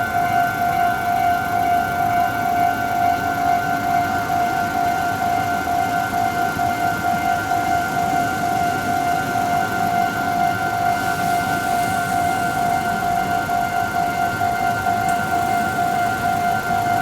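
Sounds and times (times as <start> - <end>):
level crossing alarm pulsing: 0.0 - 17.0.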